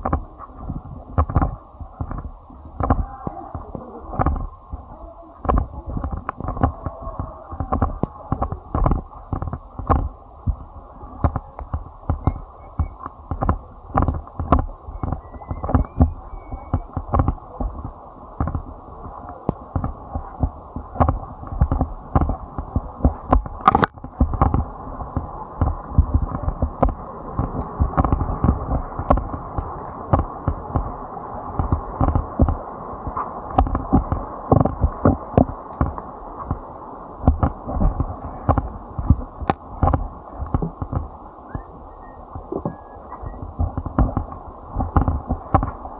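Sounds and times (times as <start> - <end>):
muffled thumps and knocks: 0.0 - 31.0, 31.6 - 45.8.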